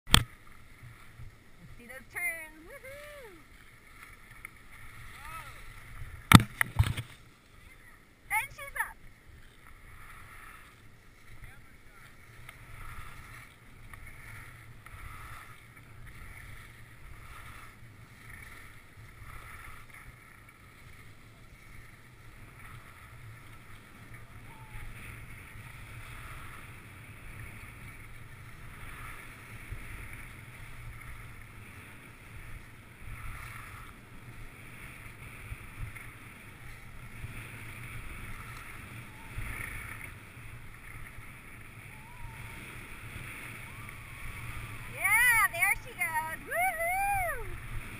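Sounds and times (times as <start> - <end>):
skis scraping over snow: 0.1 - 47.9
wind rumble on microphone: 4.7 - 47.9.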